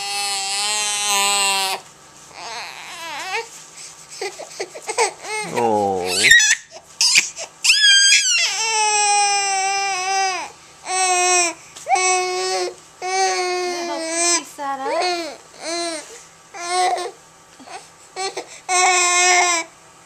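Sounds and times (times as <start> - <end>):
baby crying: 0.0 - 1.8, 5.0 - 19.7.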